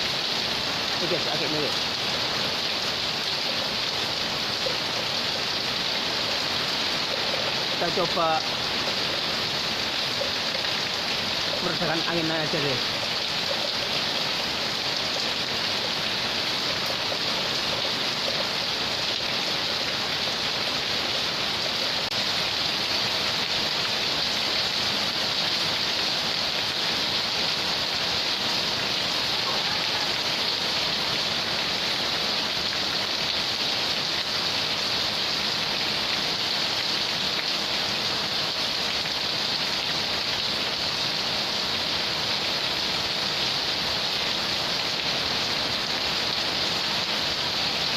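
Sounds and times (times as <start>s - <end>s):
rain falling in wind: 0.0s - 47.9s.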